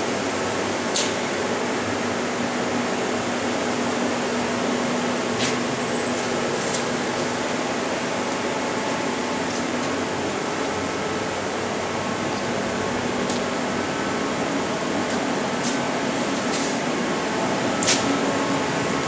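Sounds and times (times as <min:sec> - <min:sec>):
machinery whirring hum: 0:00.0 - 0:19.0.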